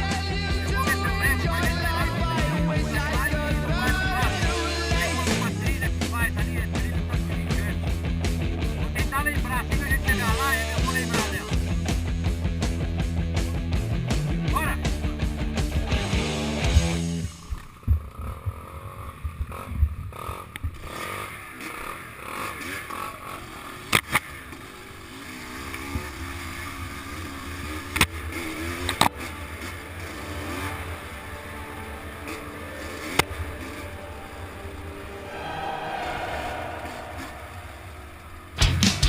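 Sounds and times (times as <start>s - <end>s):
vehicle engine revving: 0.0s - 39.0s.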